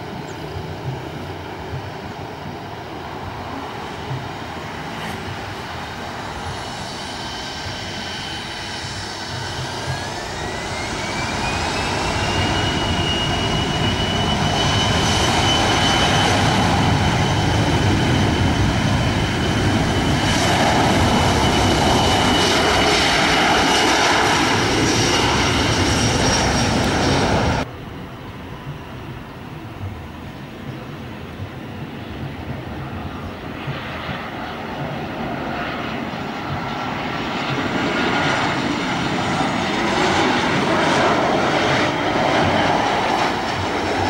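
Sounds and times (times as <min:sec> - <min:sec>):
jet engines roaring: 0:00.0 - 0:44.0
rising turbine whine: 0:00.0 - 0:44.0.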